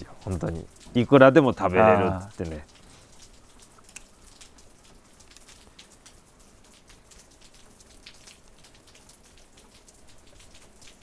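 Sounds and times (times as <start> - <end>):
meltwater dripping: 0.0 - 11.0.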